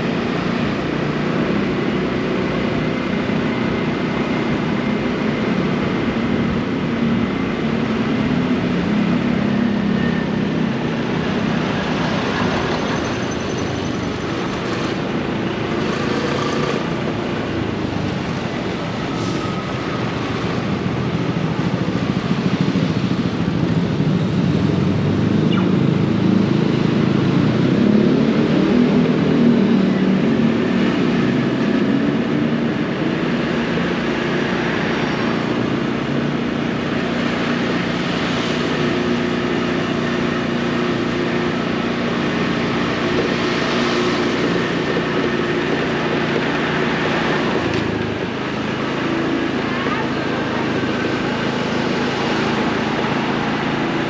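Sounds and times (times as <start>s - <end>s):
street traffic noise: 0.0s - 54.0s.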